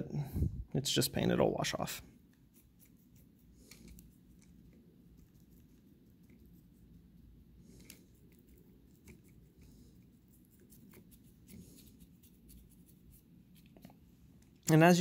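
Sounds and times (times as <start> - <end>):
low room hum: 0.0 - 15.0
paintbrush dabbing paint: 1.2 - 14.7.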